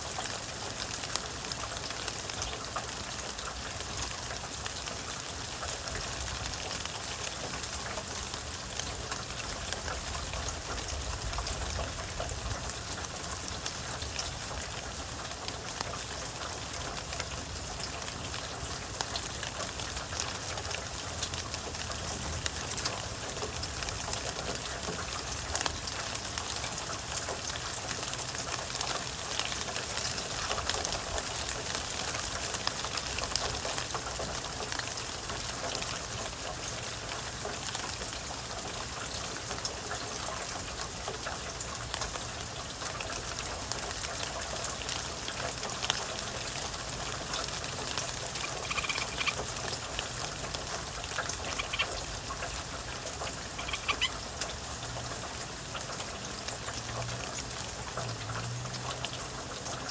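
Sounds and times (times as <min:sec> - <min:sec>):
close raindrop drips: 0:00.0 - 0:59.9
steady rain falling: 0:00.0 - 0:59.9.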